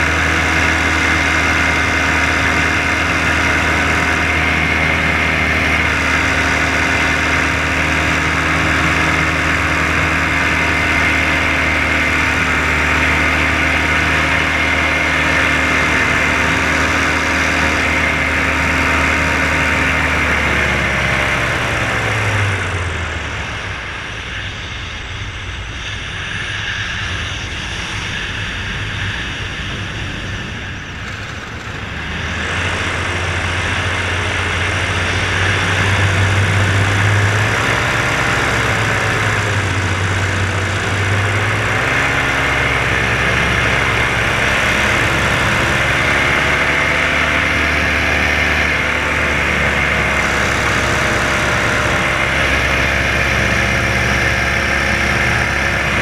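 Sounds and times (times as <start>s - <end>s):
paramotor engine running: 0.0s - 56.0s.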